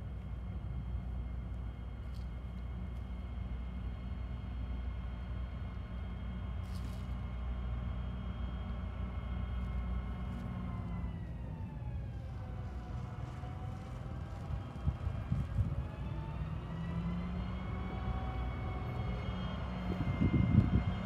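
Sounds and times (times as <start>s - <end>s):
engine high whine: 0.0s - 21.0s
locomotive engine rumble: 0.0s - 21.0s.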